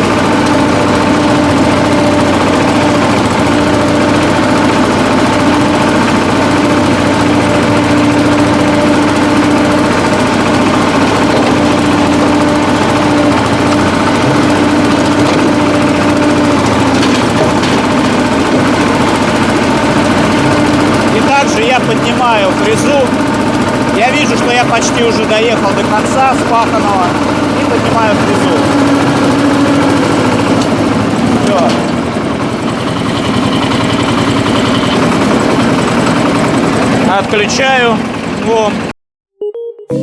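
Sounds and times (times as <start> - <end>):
rotary tiller churning soil: 0.0 - 38.9
diesel engine running: 0.0 - 39.0.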